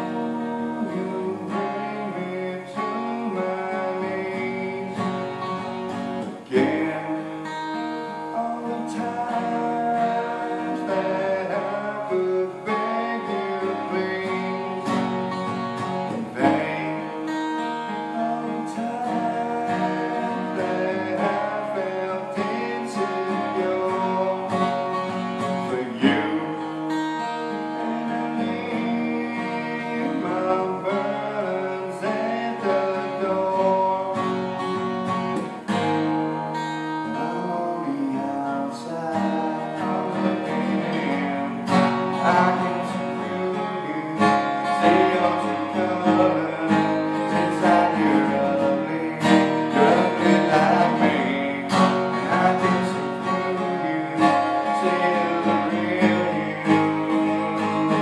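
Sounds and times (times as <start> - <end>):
acoustic guitar chords: 0.0 - 58.0.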